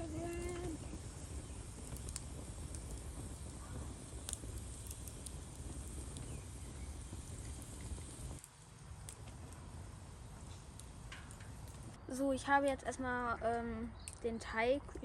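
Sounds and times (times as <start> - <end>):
campfire embers crackling: 0.0 - 15.0.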